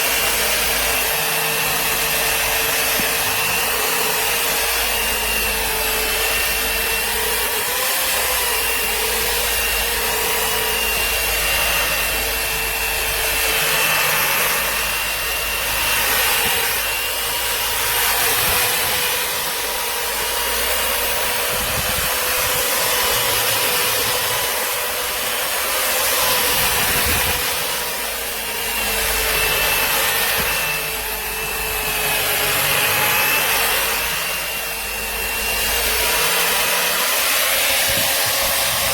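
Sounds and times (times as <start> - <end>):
finishing machine whining and rasping: 0.0 - 38.9.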